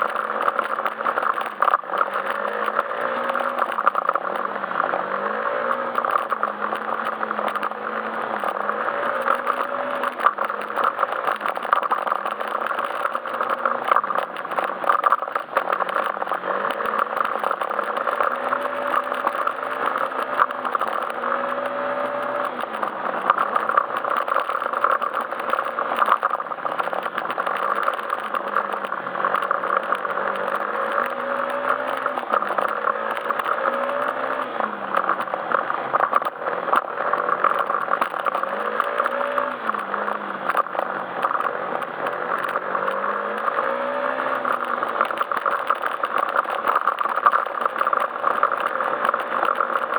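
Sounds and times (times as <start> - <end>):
road and wind noise: 0.0 - 49.9
scooter engine revving: 0.0 - 49.9
small rattles and knocks: 0.0 - 49.9.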